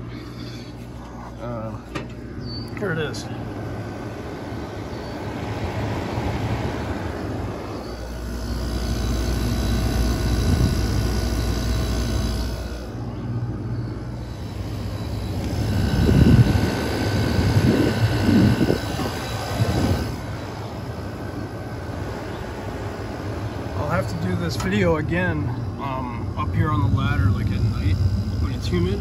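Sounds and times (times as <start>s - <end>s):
air conditioner humming: 0.0s - 29.0s.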